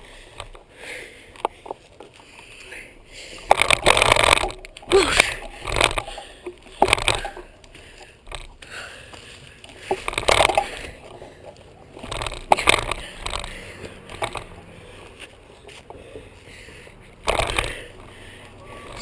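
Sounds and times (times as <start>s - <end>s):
bicycle rumbling and rattling: 0.0s - 19.0s.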